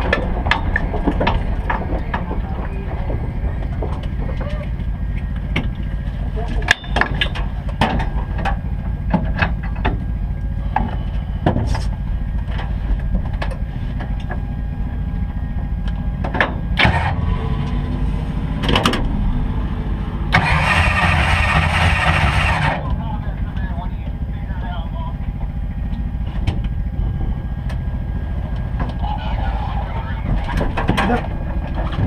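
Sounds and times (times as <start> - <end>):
race car engine idling: 0.0 - 32.0.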